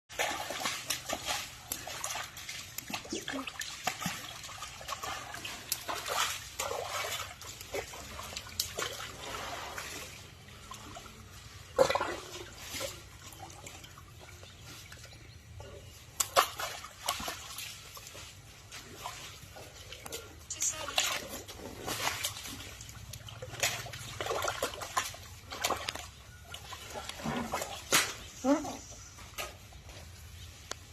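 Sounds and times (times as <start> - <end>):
water splashing and trickling: 0.1 - 30.9.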